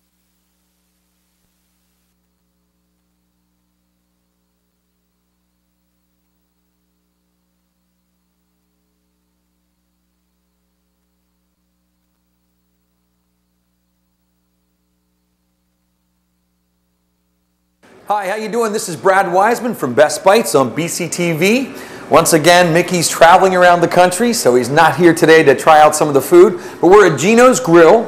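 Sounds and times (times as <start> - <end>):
faint electrical mains hum: 0.0 - 28.0.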